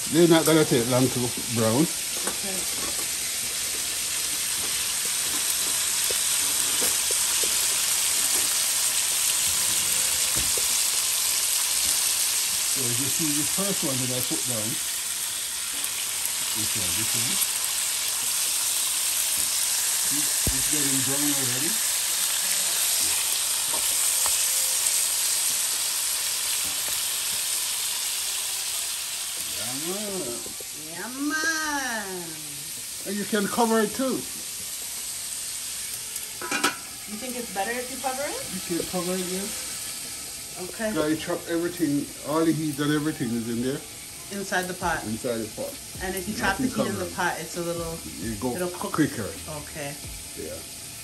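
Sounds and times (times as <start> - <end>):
meat sizzling in hot oil: 0.0 - 51.0.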